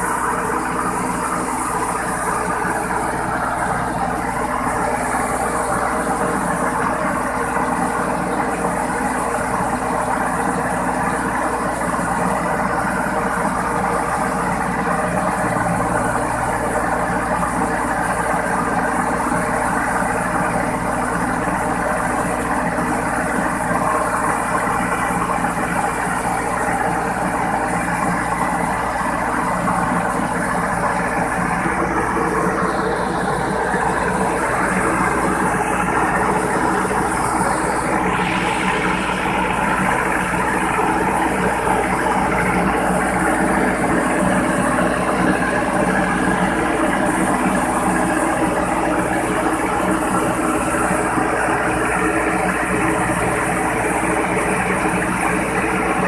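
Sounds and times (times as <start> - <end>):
diesel engine running steadily: 0.0 - 56.0.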